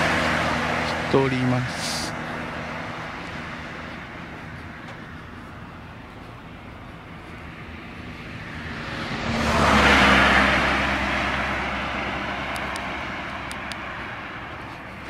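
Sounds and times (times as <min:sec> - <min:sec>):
car passing: 0:00.0 - 0:15.0.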